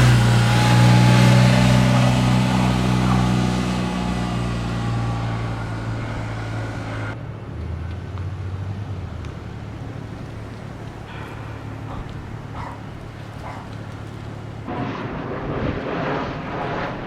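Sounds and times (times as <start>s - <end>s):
road noise: 0.0s - 17.0s
vehicle engine humming: 0.0s - 17.0s.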